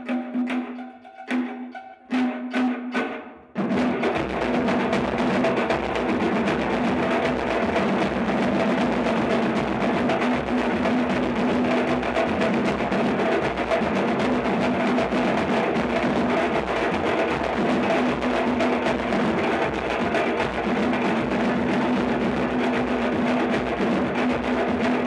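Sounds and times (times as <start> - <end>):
drum ensemble playing: 0.0 - 25.0.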